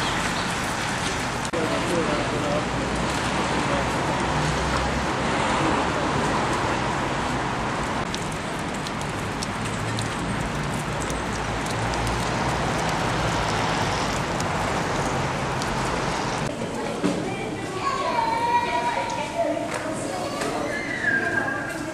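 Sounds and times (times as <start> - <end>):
city traffic rumble: 0.0 - 21.9.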